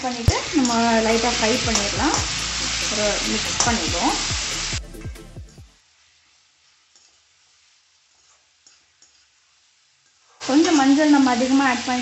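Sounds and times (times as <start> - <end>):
onions and tomatoes sizzling: 0.0 - 12.0.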